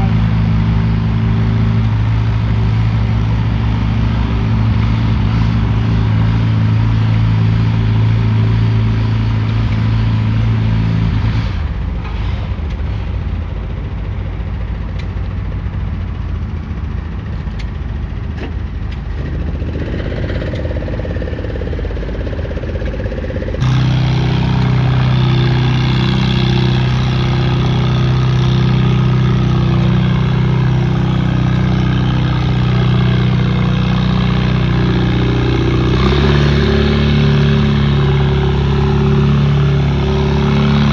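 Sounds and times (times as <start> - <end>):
engine running: 0.0 - 40.9
loud engine sound: 0.0 - 40.9.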